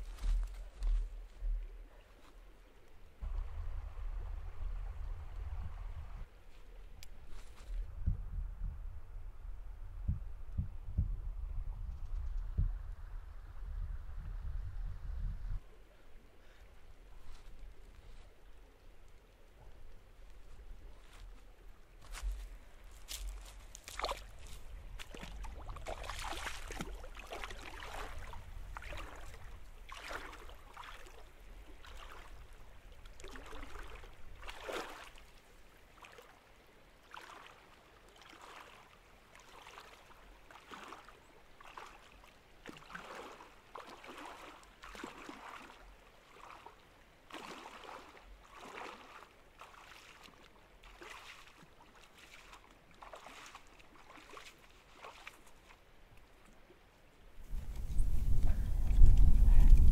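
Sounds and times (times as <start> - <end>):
wading through shallow stream: 0.0 - 8.0, 15.6 - 59.9.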